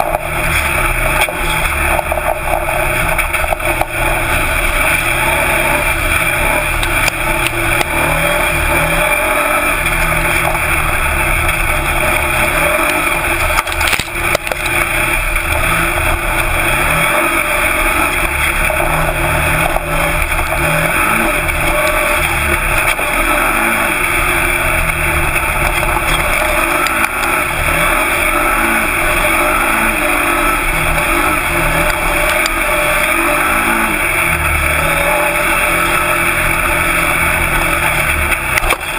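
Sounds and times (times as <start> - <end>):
buggy engine revving: 0.0 - 38.9.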